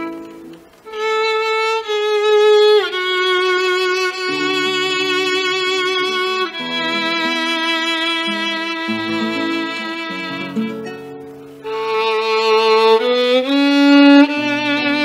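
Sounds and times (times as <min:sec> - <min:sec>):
classical guitar accompaniment: 0:00.0 - 0:15.0
violin slow melody: 0:00.0 - 0:15.0.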